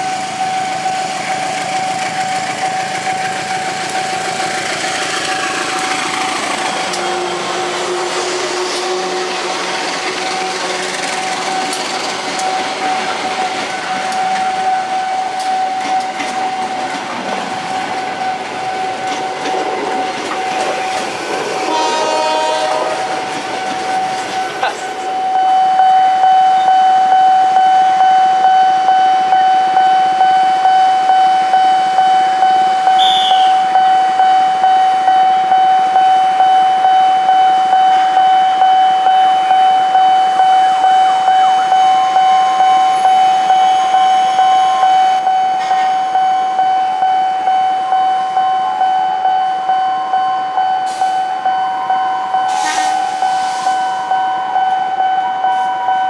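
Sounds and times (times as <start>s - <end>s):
pulsing electronic warning tone: 0.0s - 56.0s.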